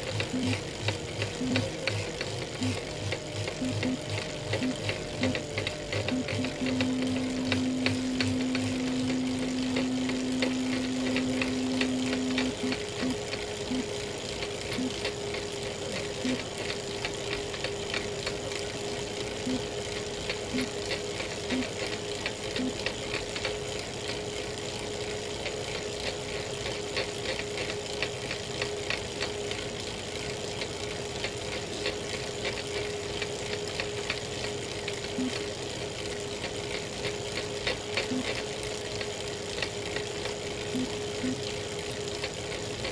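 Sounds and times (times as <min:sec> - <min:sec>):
bike trainer whine: 0:00.0 - 0:42.9
fast continuous crackling: 0:00.0 - 0:42.9.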